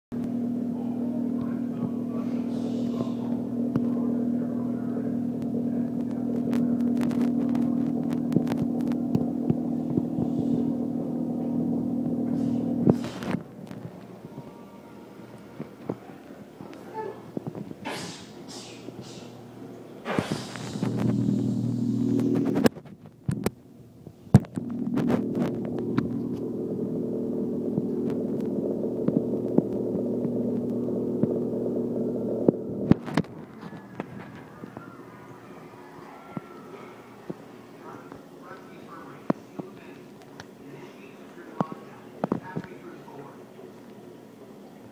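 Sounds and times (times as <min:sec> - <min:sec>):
aquarium pump hum: 0:00.2 - 0:16.2, 0:16.9 - 0:40.0.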